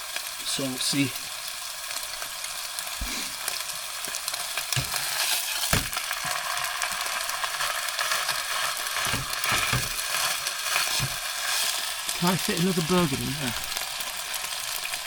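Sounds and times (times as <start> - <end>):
burgers sizzling in a frying pan: 0.0 - 15.0.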